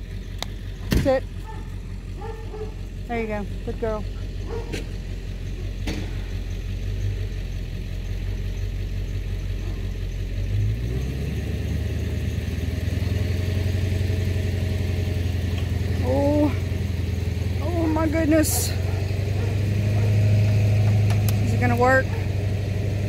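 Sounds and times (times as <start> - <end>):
vehicle engine idling and pulling: 0.0 - 23.0.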